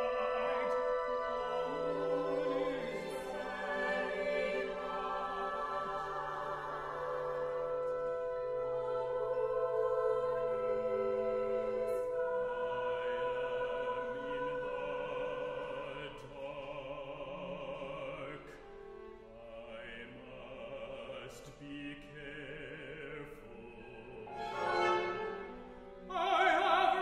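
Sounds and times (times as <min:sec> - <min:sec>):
operatic singing: 0:00.0 - 0:27.0.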